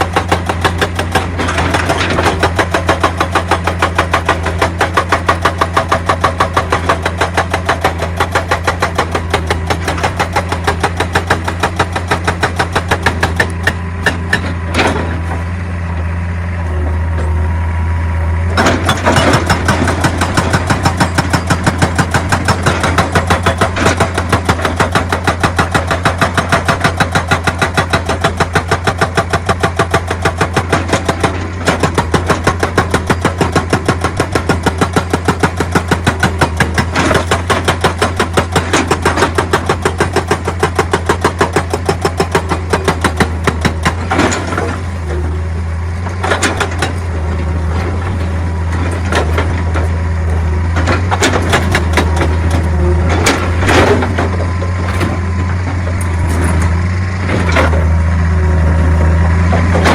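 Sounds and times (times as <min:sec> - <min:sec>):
hydraulic rock breaker hammering stone: 0:00.0 - 0:15.6, 0:18.5 - 0:59.9
diesel engine humming: 0:00.0 - 0:59.9.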